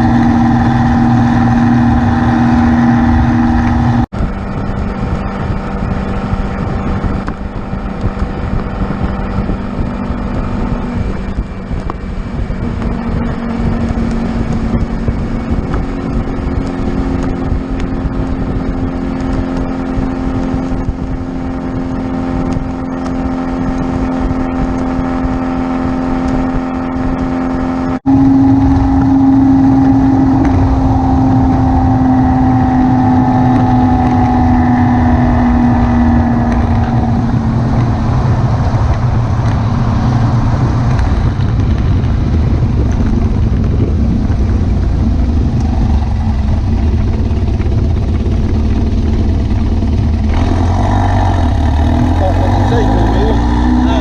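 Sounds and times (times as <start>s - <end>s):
car engine droning: 0.0s - 54.0s
road rumble: 0.0s - 54.0s.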